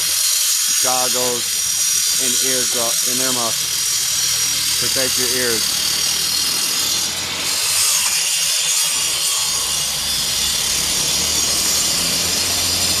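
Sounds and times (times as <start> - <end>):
grinder cutting masonry: 0.0 - 13.0.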